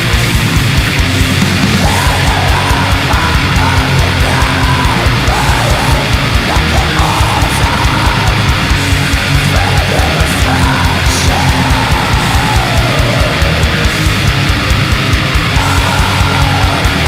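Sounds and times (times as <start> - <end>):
distorted electric guitars: 0.0 - 17.0
fast dense drumming: 0.0 - 17.0.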